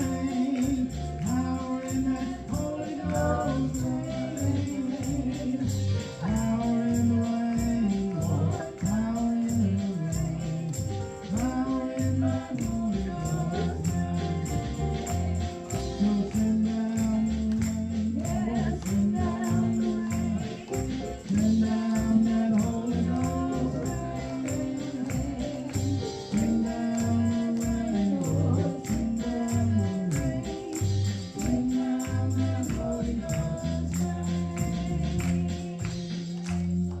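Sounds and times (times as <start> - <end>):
steady percussion beat: 0.0 - 37.0.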